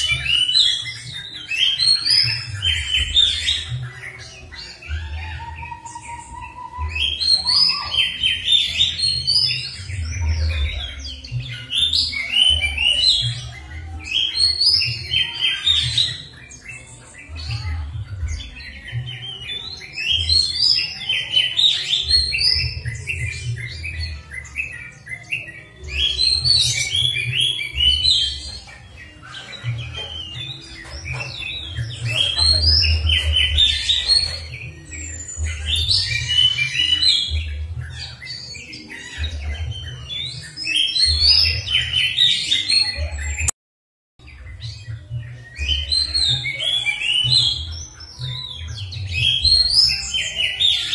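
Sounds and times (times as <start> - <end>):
songbird chirping and trilling: 0.0 - 43.5, 44.2 - 50.9.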